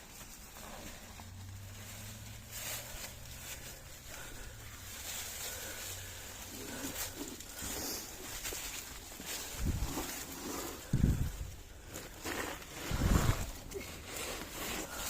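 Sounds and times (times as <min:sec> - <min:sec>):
footsteps with rustling: 0:00.0 - 0:15.0.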